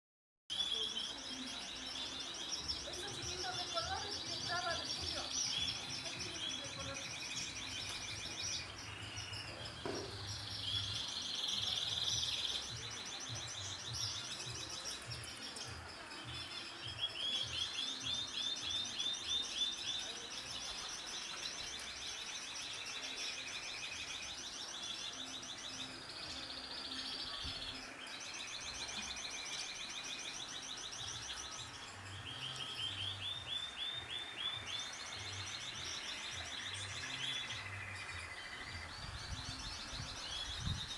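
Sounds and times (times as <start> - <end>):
small birds chirping and trilling: 0.5 - 40.9.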